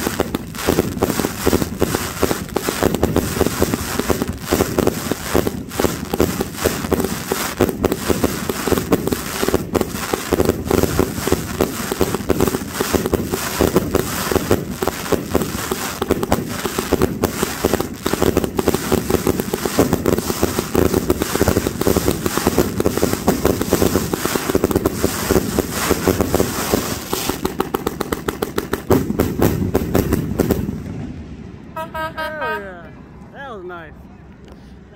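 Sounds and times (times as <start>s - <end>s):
firework launches and bursts: 0.0s - 32.7s.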